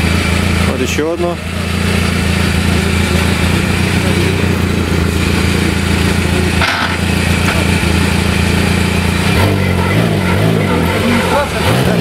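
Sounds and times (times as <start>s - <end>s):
vehicle engine running and revving: 0.0s - 12.0s.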